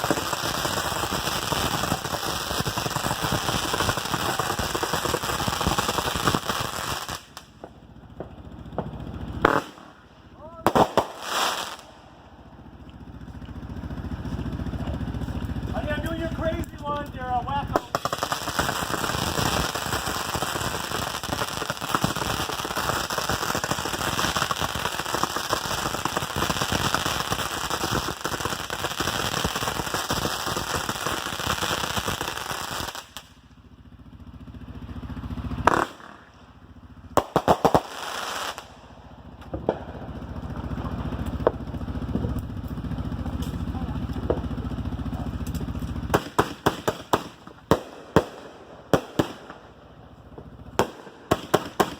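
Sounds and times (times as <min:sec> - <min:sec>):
firework bangs and pops: 0:00.0 - 0:33.5, 0:34.1 - 0:51.9
fireworks crackling: 0:00.0 - 0:51.9.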